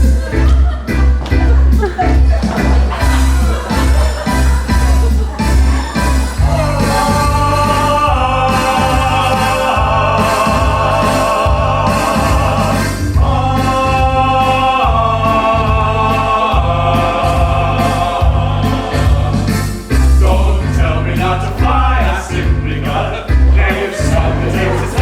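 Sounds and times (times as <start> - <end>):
mixed choir singing: 0.0 - 25.0
pulsing low accompaniment: 0.0 - 25.0.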